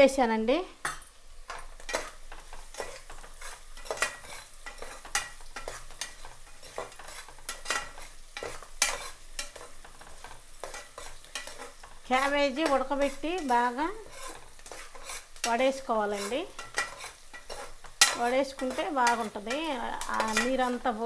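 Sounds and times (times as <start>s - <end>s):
onions sizzling in oil: 0.0s - 21.0s
spoon scraping a pan: 0.8s - 21.0s.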